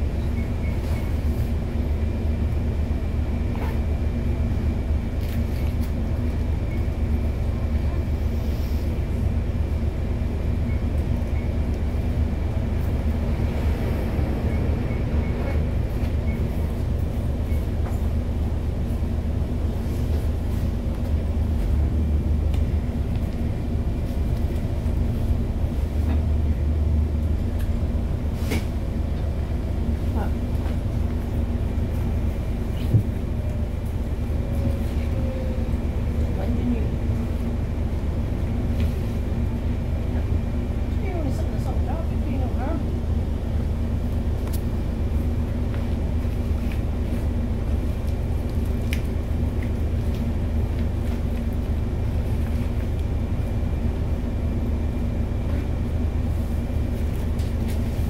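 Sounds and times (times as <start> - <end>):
idling vehicle engines rumbling: 0.0 - 58.0.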